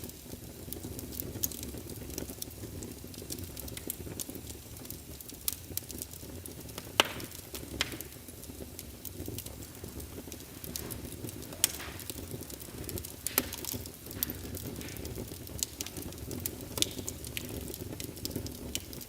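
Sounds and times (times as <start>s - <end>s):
fire crackling and popping: 0.0s - 19.0s
low rumble of flame: 0.0s - 19.0s.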